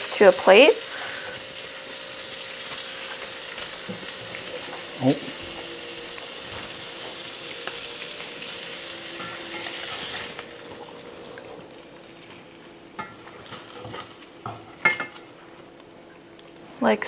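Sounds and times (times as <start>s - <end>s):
fish sizzling in hot oil: 0.0s - 16.6s.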